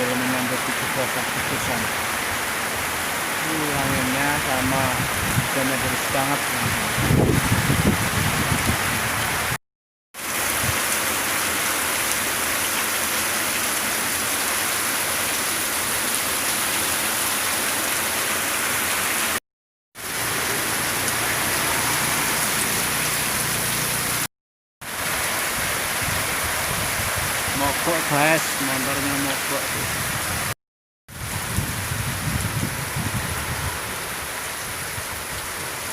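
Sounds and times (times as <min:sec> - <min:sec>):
heavy rain in wind: 0:00.0 - 0:09.6, 0:10.2 - 0:19.4, 0:20.0 - 0:35.9.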